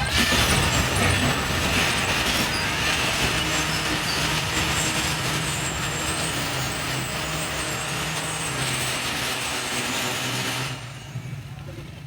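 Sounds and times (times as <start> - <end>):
train running on tracks: 0.0 - 12.0.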